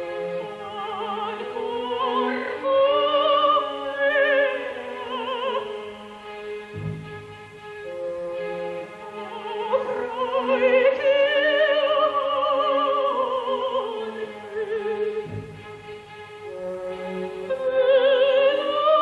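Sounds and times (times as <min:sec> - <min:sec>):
operatic soprano singing: 0:00.0 - 0:06.3, 0:08.0 - 0:15.8, 0:16.5 - 0:19.0
orchestral accompaniment: 0:00.0 - 0:19.0.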